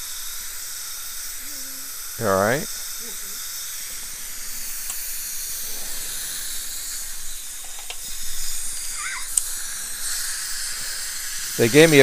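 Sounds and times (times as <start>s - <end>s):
suction tip hissing: 0.0s - 12.0s.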